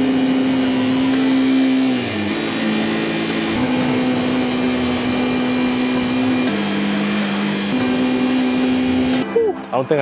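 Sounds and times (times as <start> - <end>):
road noise: 0.0 - 9.2
motorcycle engine running: 0.0 - 9.4
background music low notes: 0.1 - 10.0.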